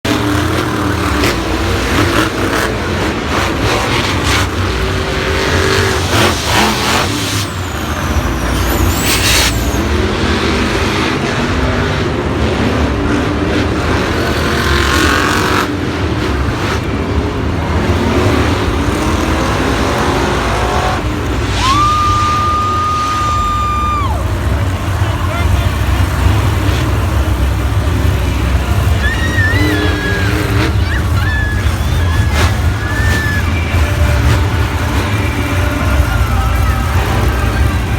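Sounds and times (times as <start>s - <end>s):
truck engines running loud: 0.0s - 37.9s.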